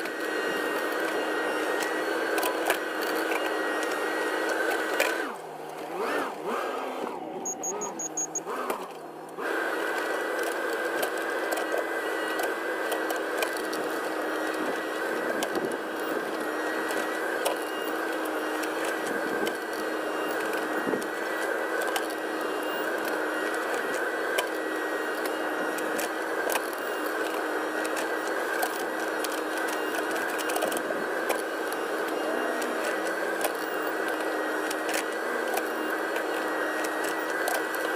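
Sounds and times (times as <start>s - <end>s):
small clicks and scrapes: 0.0s - 5.9s, 7.7s - 37.9s
diesel engine and hydraulics running: 0.0s - 37.9s.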